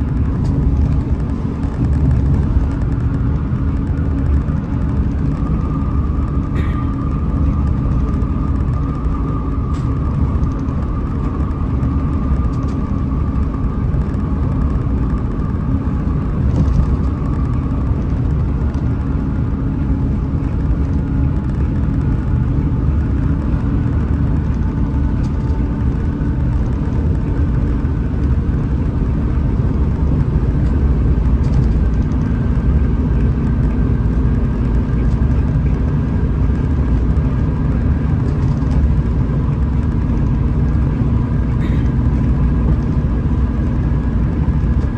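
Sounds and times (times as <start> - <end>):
bus engine drone: 0.0 - 44.9
tyre and road rumble: 0.0 - 44.9.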